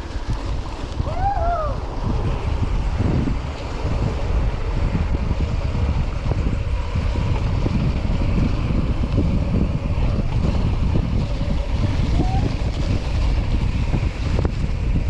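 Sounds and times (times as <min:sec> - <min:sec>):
tyre noise on muddy trail: 0:00.0 - 0:15.0
wind buffeting microphone: 0:00.0 - 0:15.0.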